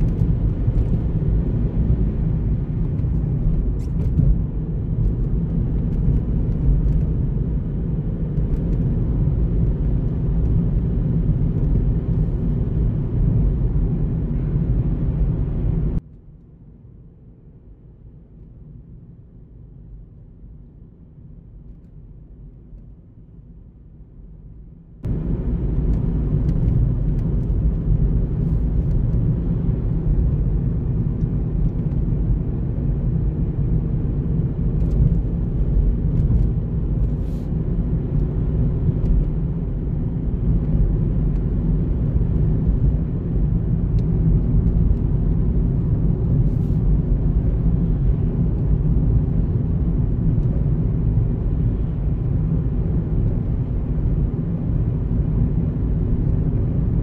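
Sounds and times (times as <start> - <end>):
car driving low rumble: 0.0 - 57.0.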